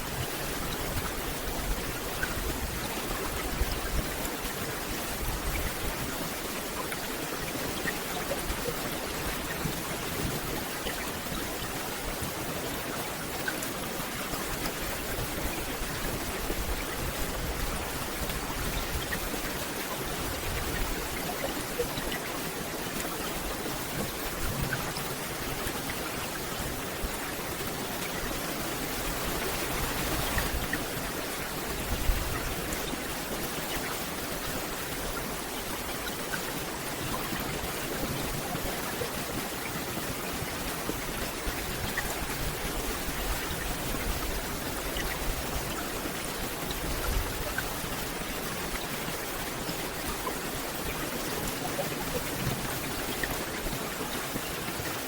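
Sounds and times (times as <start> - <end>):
rain on forest canopy: 0.0 - 55.0.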